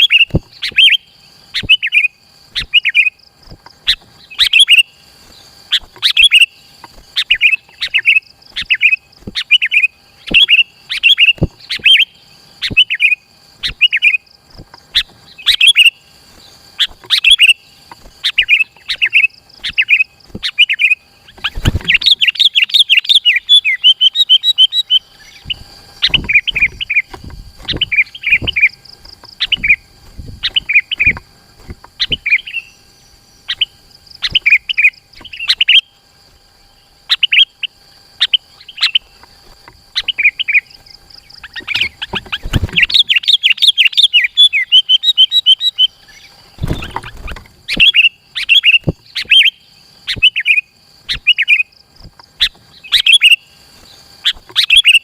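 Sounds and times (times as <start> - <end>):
bulbul singing: 0.0 - 55.0
steady high whine: 0.0 - 55.0.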